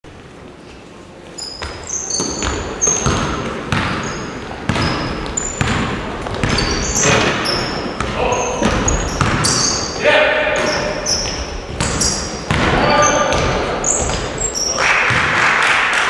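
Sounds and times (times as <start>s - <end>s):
sneaker squeaks: 0.6s - 15.2s
basketballs bouncing on gym floor: 1.4s - 15.5s.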